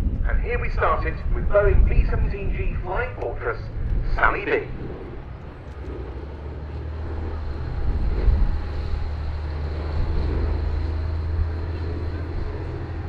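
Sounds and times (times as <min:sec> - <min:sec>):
aircraft engines droning: 0:00.0 - 0:13.0.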